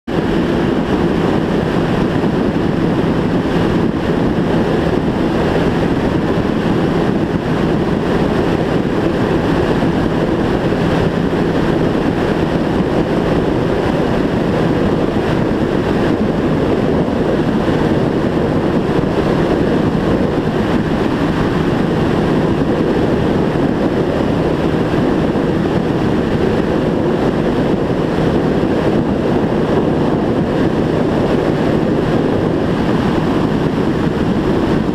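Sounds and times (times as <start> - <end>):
motorcycle engine running: 0.0 - 34.9
wind rush on microphone: 0.0 - 34.9.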